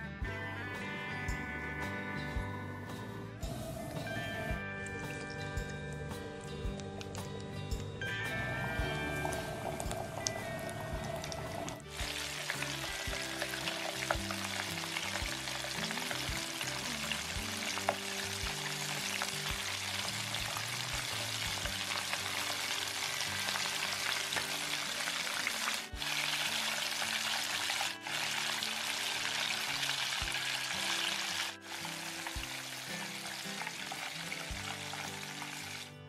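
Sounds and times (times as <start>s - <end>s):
oil crackling and sizzling: 3.4s - 36.0s.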